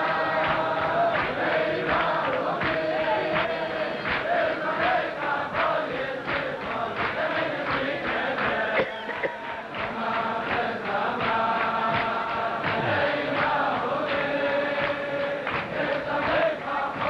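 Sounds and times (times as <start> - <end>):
men singing in unison: 0.0 - 17.0.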